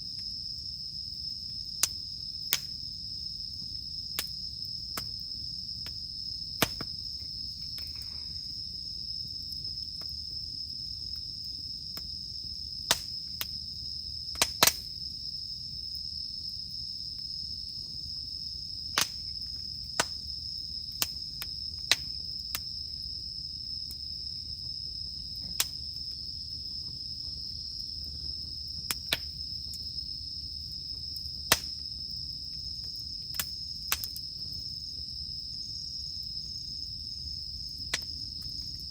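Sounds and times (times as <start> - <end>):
campfire crackling and popping: 1.5 - 16.4, 17.0 - 38.9.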